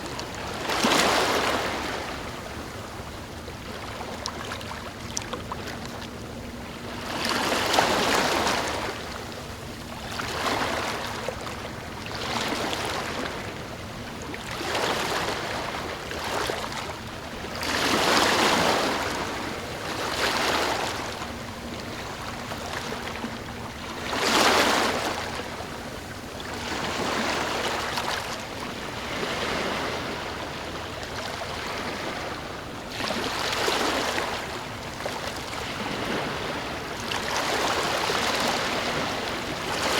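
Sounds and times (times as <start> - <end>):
small ocean waves breaking: 0.0 - 39.9.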